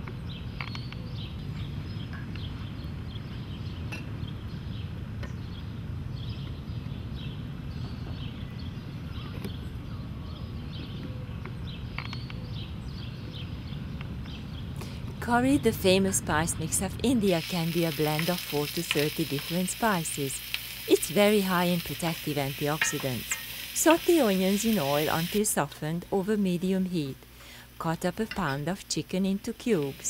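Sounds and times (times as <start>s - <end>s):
small birds chirping: 0.0s - 25.7s
low outdoor rumble: 1.4s - 30.0s.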